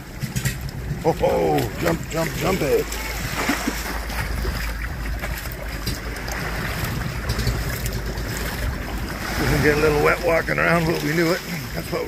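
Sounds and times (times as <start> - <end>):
small waves washing: 0.0 - 12.0
wind buffeting microphone: 0.0 - 12.0.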